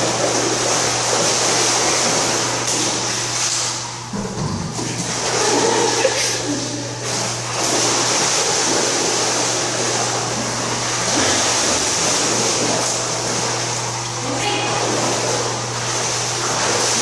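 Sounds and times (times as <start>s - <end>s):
dog splashing through water: 0.0s - 3.8s, 4.8s - 17.0s
churning pool water: 0.0s - 17.0s
low steady hum: 0.0s - 17.0s.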